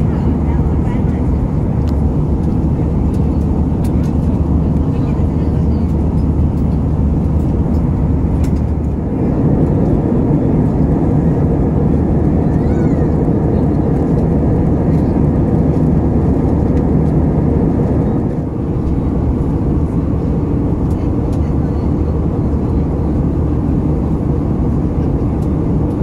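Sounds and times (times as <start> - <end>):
airliner cabin noise: 0.0 - 26.0.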